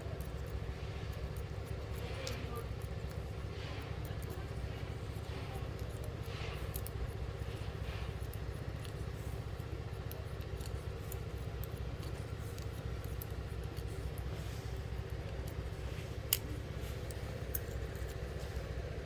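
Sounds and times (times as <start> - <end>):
scissors snipping hair: 0.0 - 18.8
steady low hum: 0.0 - 19.0.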